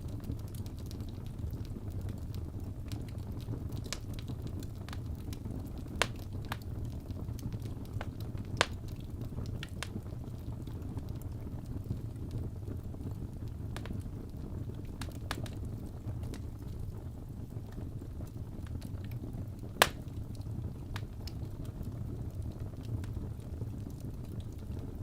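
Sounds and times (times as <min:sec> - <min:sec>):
fire crackling and popping: 0:00.0 - 0:25.0
fire flames rumbling: 0:00.0 - 0:25.0.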